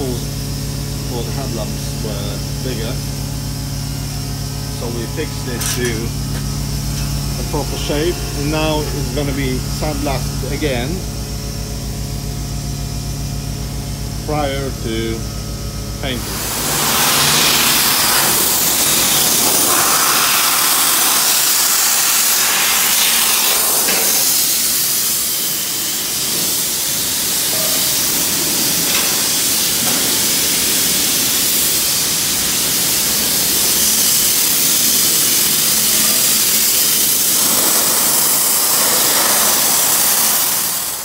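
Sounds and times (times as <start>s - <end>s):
sandblasting nozzle hissing: 0.0s - 41.0s.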